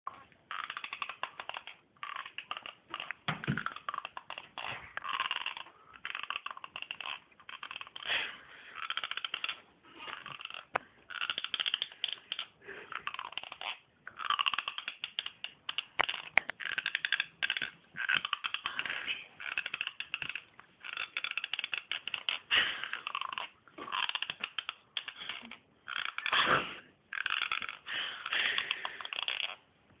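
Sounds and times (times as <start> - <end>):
teeth grinding: 0.1 - 29.8.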